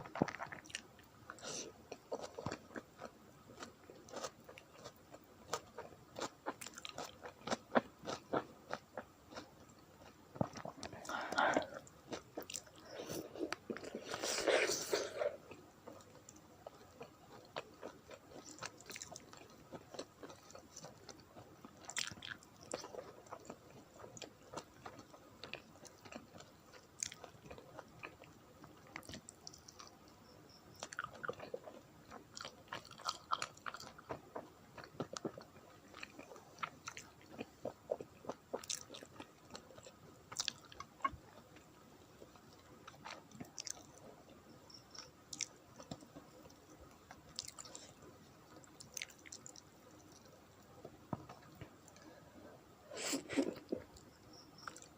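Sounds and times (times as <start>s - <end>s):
close chewing and wet mouth sounds: 0.0s - 52.6s, 53.2s - 54.9s.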